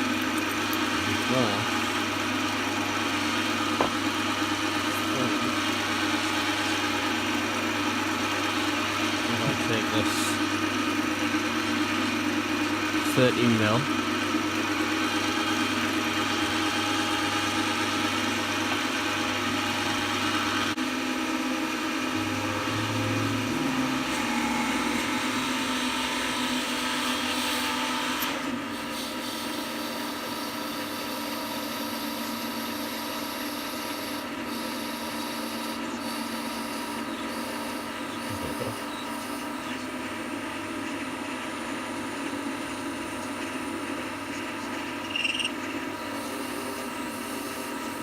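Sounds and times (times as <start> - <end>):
lathe motor hum: 0.0 - 48.0.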